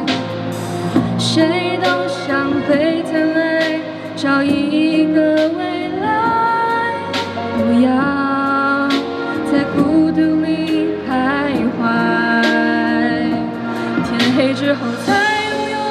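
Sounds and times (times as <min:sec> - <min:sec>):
instrumental accompaniment: 0:00.0 - 0:15.9
woman singing with vibrato: 0:01.1 - 0:15.9.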